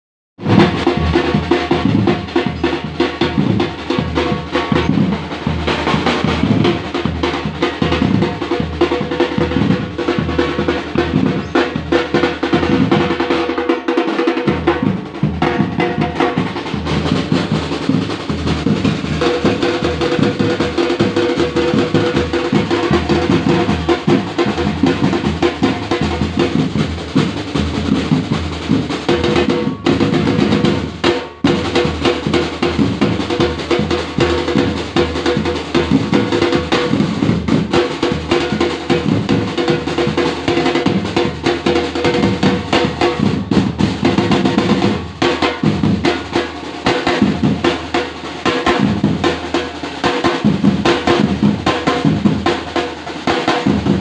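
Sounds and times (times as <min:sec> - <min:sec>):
marching drumline: 0:00.4 - 0:54.0.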